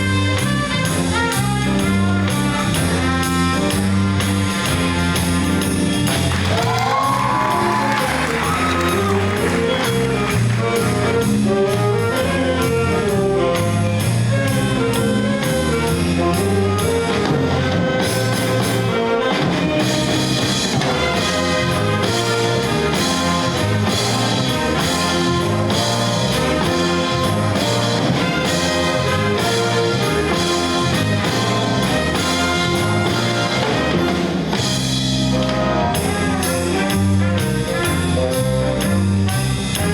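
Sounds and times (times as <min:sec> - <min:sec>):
jazz big band playing: 0:00.0 - 0:39.9.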